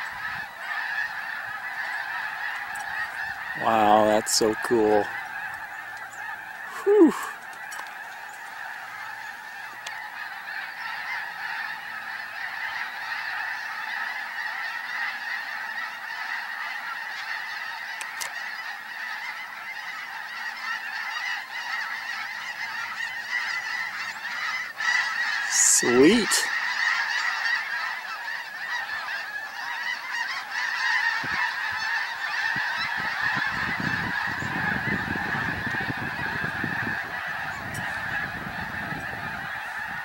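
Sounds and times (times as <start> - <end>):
geese honking: 0.0 - 40.0.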